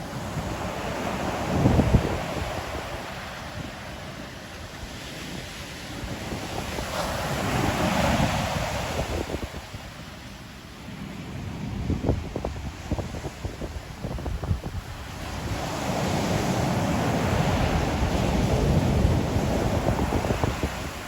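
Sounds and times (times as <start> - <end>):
ocean waves breaking on shore: 0.0 - 21.0
wind rumbling on microphone: 0.0 - 21.0.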